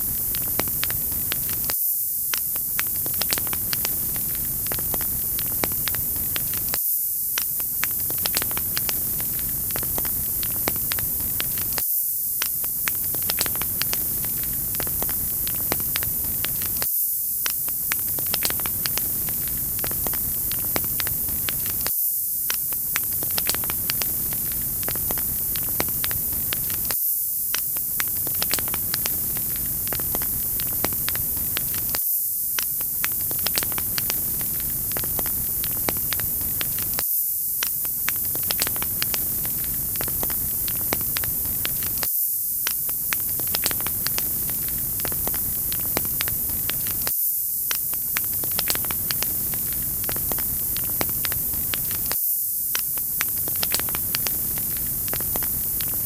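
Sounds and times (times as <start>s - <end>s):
wood fire crackling: 0.0s - 1.7s, 2.3s - 6.8s, 7.4s - 11.8s, 12.4s - 21.9s, 22.5s - 32.0s, 32.6s - 37.0s, 37.6s - 47.1s, 47.7s - 56.0s
steady loud hiss: 0.0s - 56.0s.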